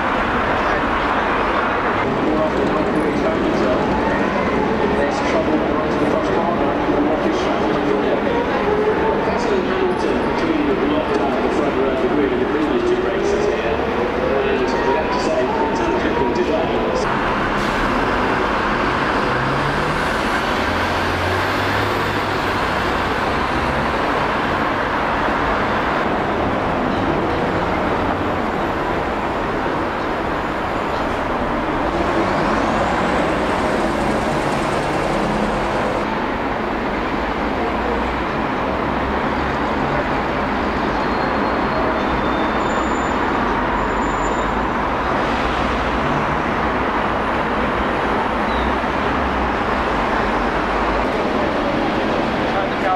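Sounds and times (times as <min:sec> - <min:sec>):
city traffic: 0:00.0 - 0:52.9.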